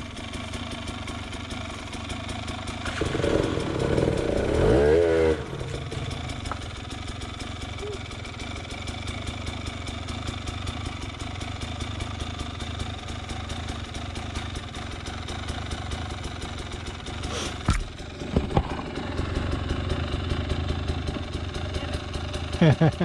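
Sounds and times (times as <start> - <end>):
two-stroke engine idling: 0.0 - 23.0.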